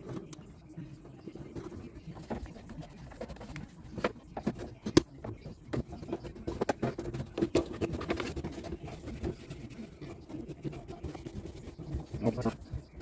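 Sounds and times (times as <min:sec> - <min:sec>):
plastic fittings clicking and scraping: 0:01.5 - 0:13.0.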